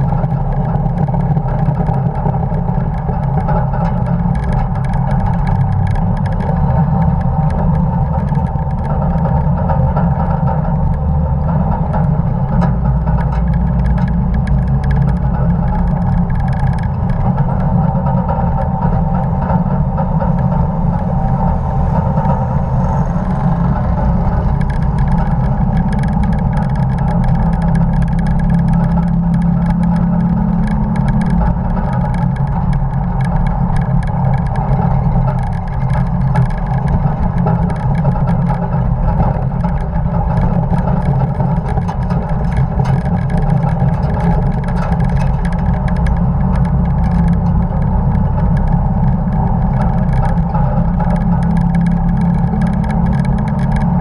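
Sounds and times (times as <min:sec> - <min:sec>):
rushing wind: 0:00.0 - 0:54.0
truck engine running steadily: 0:00.0 - 0:54.0.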